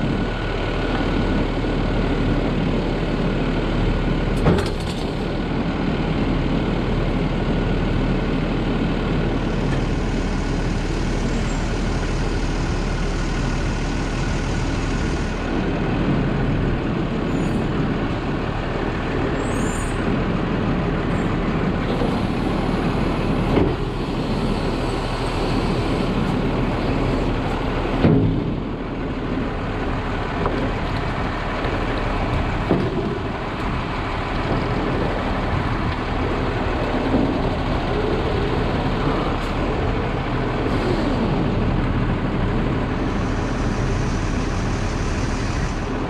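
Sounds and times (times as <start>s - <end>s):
garbage truck engine droning: 0.0s - 46.0s.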